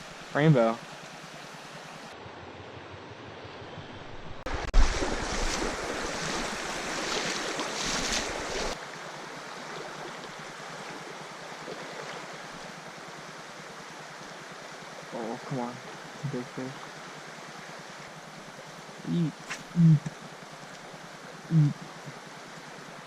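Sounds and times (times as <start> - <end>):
mountain stream rushing: 4.2 - 23.0.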